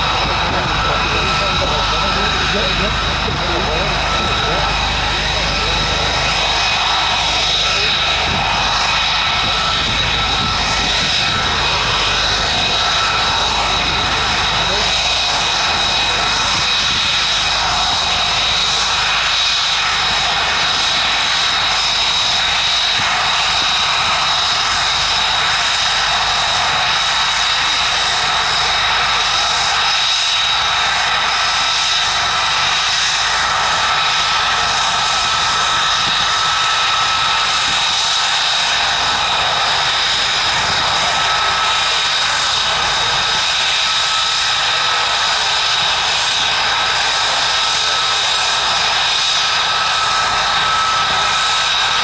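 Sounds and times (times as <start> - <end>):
jet engine roar with whine: 0.0 - 52.0.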